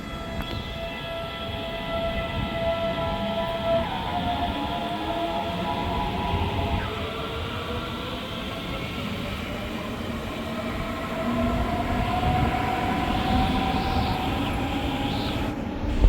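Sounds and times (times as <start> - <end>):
train whine rising in pitch: 0.0 - 16.0.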